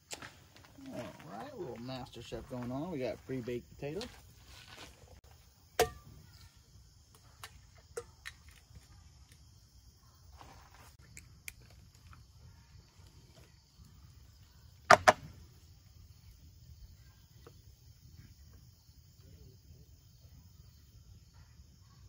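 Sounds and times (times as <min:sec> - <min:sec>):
insects hissing: 0:00.0 - 0:22.0.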